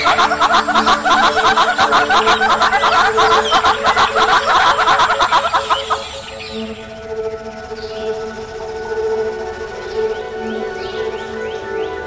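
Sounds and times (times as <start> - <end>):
hornbills cackling: 0.0 - 12.0.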